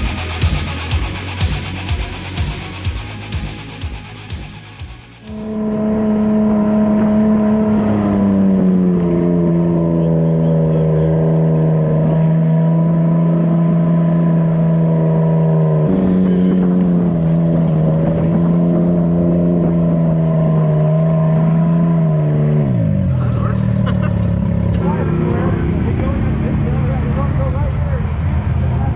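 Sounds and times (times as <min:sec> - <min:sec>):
utv engine revving high: 0:00.0 - 0:28.9.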